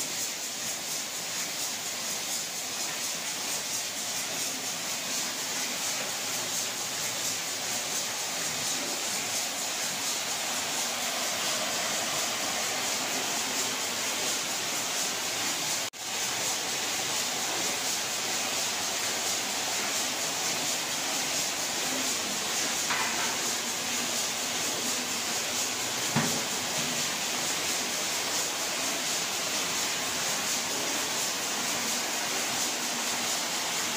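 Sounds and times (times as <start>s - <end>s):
machine hissing and rattling: 0.0s - 33.9s.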